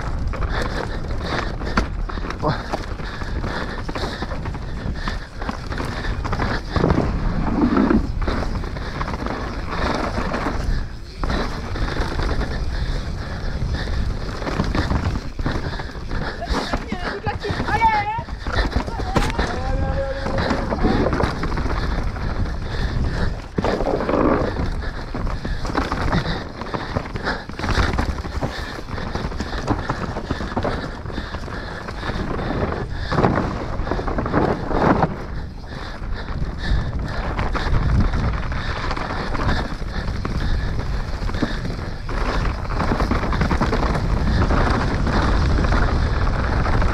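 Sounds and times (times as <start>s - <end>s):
mountain bike rattling on trail: 0.0s - 46.9s
wind noise on microphone: 0.0s - 46.9s.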